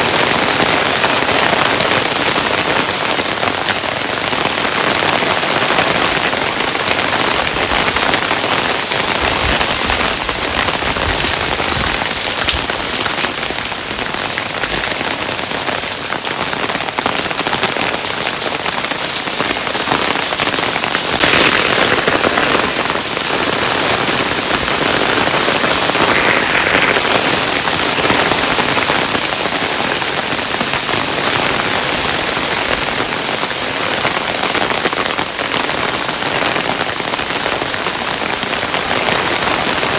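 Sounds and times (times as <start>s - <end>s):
hailstones pattering on a surface: 0.0s - 39.9s.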